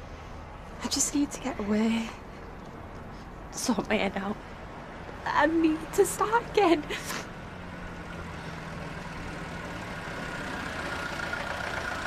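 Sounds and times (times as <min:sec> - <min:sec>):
car engine approaching: 0:00.0 - 0:12.0.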